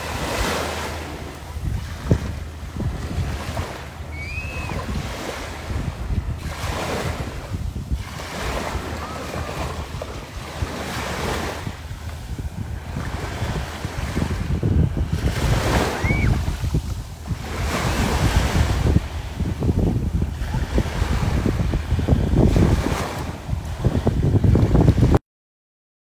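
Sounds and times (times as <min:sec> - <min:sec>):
waves washing onto beach: 0:00.0 - 0:25.2
wind buffeting microphone: 0:00.0 - 0:25.2.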